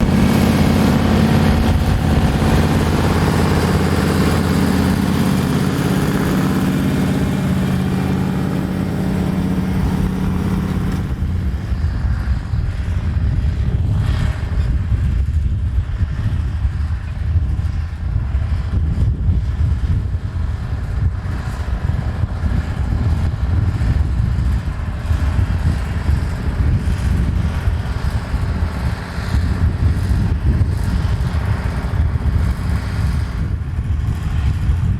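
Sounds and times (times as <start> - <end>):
tractor engine running under load: 0.0 - 34.9.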